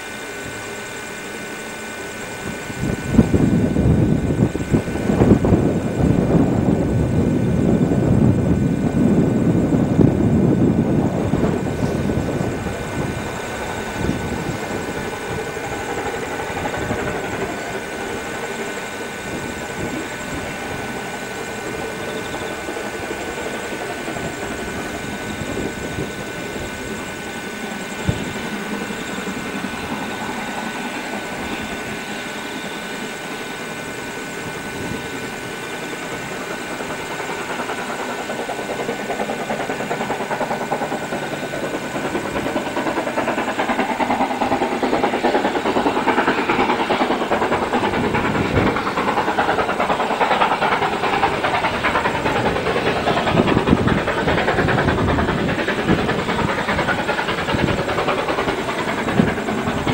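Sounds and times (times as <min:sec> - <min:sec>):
steam locomotive exhaust chuffing: 0:00.0 - 0:59.9.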